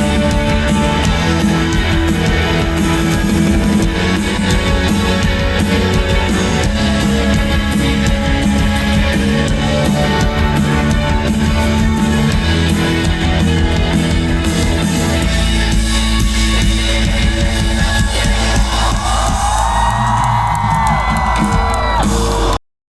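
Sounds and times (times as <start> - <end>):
drums: 0.0 - 22.6
electric guitar: 0.0 - 22.6
live band playing: 0.0 - 22.6.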